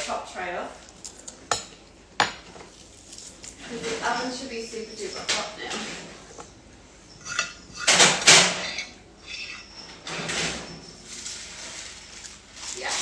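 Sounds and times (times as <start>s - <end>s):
baking tray clattering and scraping: 1.5s - 13.0s.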